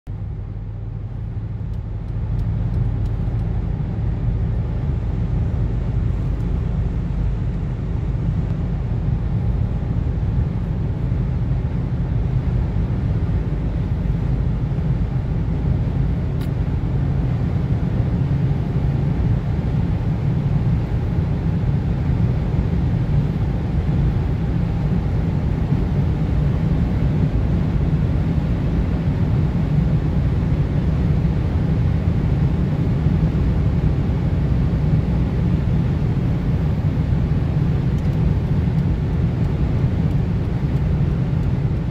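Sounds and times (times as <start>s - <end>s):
car cabin drone accelerating: 0.1s - 41.9s.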